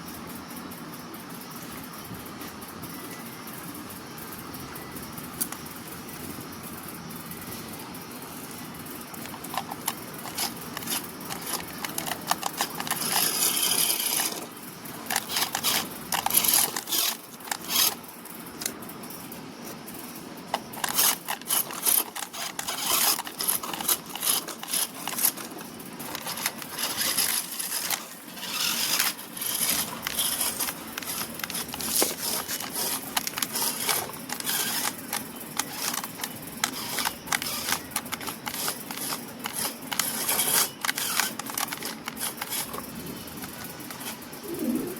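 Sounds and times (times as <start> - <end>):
rc car wheels crunching on dirt: 4.1 - 44.9.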